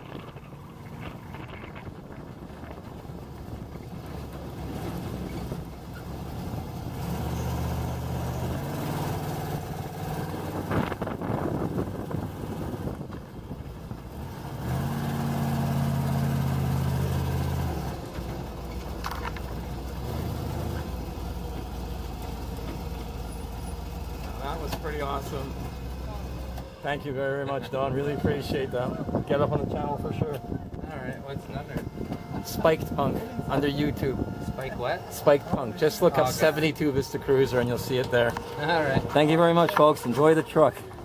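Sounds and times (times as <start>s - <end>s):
truck engine revving: 0.0s - 41.0s.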